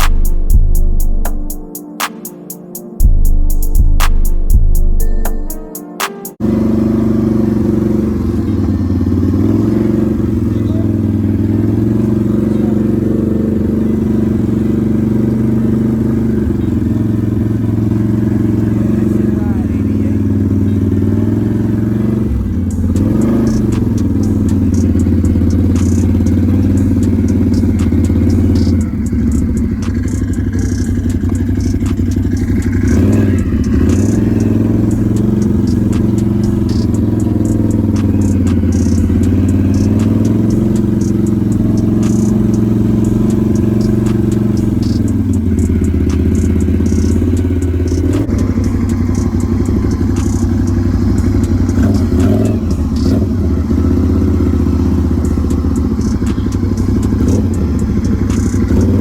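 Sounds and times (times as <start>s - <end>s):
atv engine running: 6.4s - 59.0s.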